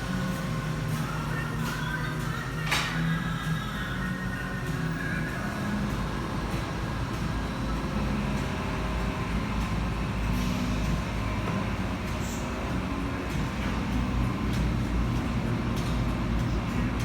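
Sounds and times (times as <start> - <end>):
car wash machinery rumbling: 0.0 - 17.0
faint humming tones: 0.0 - 17.0.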